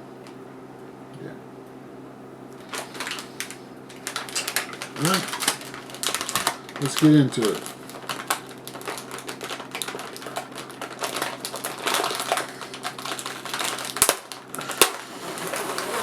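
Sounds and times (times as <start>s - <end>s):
plastic package crinkling: 2.6s - 16.0s.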